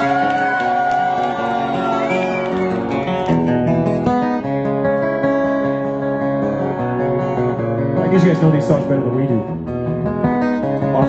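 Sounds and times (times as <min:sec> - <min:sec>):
strummed acoustic guitar: 0:01.3 - 0:11.0.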